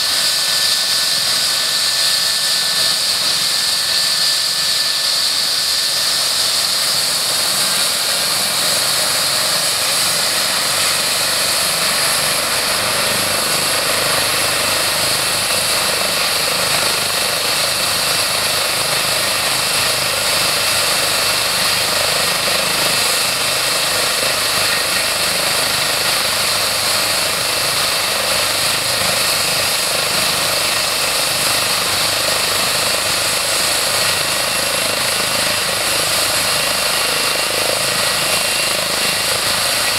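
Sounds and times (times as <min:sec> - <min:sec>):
helicopter rotor and engine noise: 0:00.0 - 0:39.9
high turbine whine: 0:00.0 - 0:39.9.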